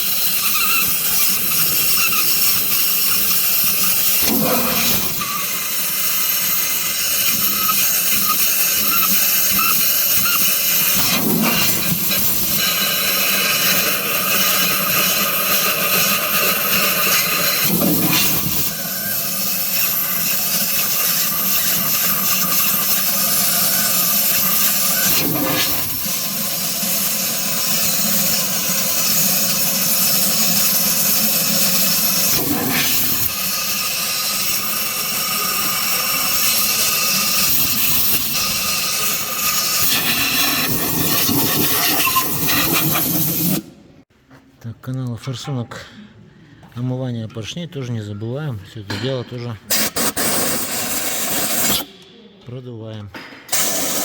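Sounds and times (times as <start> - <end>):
compressed-air blow gun hissing: 0.0 - 43.7, 49.7 - 51.9, 53.5 - 54.0.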